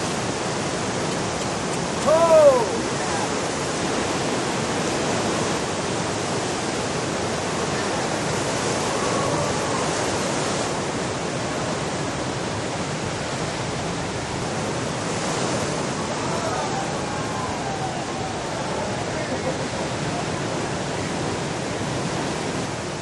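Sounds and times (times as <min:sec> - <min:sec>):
large ocean waves breaking: 0:00.0 - 0:23.0.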